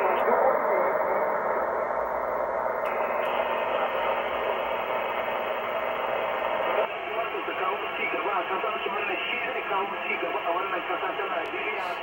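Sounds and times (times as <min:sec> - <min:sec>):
radio static and hiss: 0:00.0 - 0:02.1, 0:02.8 - 0:12.0.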